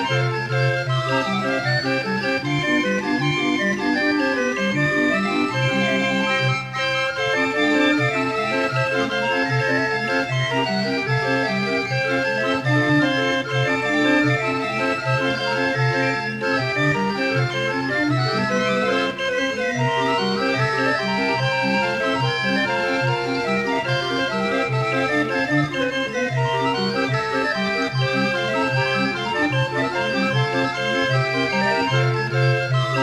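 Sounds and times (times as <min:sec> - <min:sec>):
barrel organ playing lively tune: 0:00.0 - 0:33.0.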